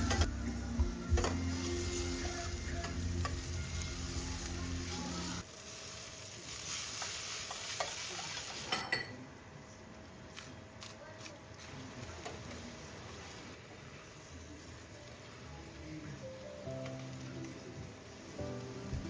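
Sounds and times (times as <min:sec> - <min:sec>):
food sizzling in a pan: 0:00.0 - 0:09.3, 0:10.4 - 0:19.0.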